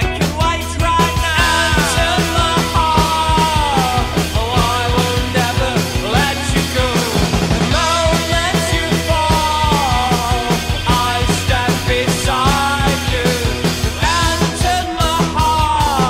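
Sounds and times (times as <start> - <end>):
punk rock music: 0.0 - 16.0.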